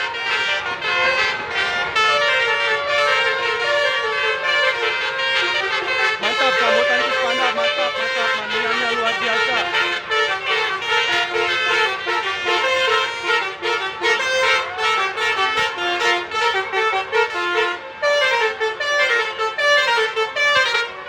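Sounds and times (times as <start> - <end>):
bus musical horn tune: 0.0 - 21.0.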